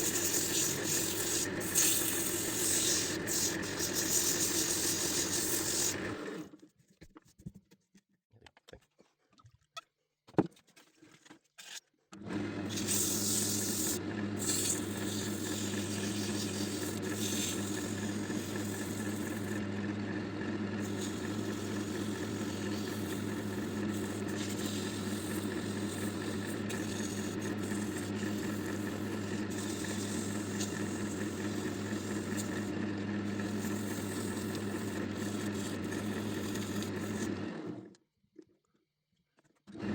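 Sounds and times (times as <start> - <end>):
electric wood lathe humming: 0.0 - 6.4, 12.2 - 37.9.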